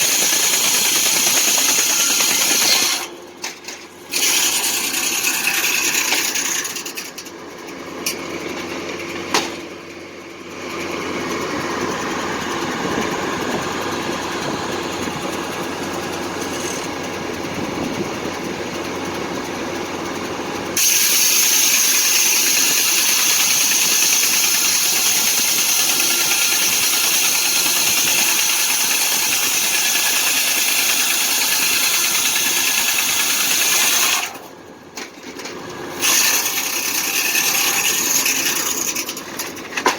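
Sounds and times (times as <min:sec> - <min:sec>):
sawmill engine and blade running: 0:00.0 - 0:39.9.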